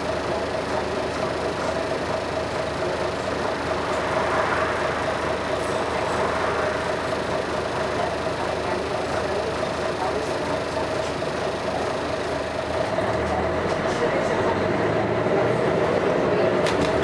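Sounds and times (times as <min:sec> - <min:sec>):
diesel bus engine running: 0:00.0 - 0:17.0.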